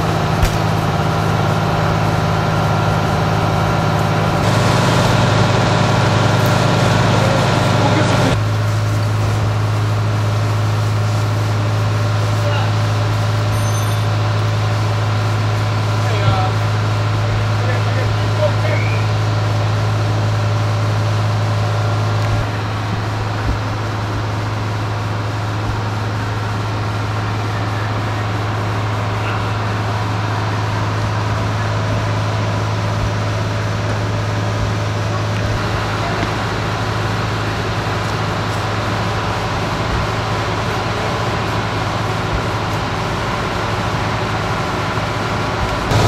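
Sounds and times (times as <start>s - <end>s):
engine idling drone: 0.0s - 46.0s.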